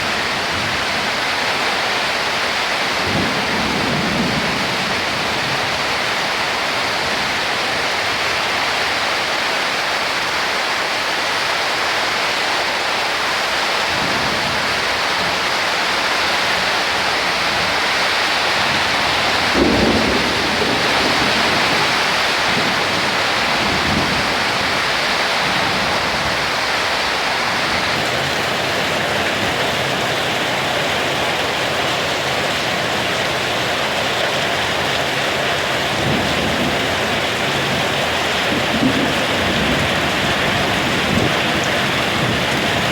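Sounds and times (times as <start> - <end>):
heavy rain pouring: 0.0 - 42.9
thunder rumbling: 2.9 - 8.6, 13.9 - 42.9.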